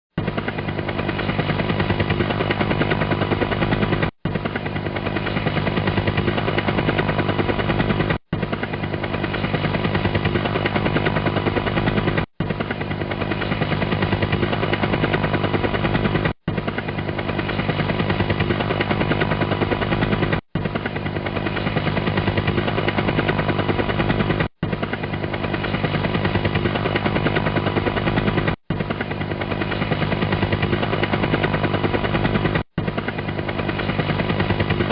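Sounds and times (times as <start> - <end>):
helicopter rotor chopping: 0.1 - 34.9.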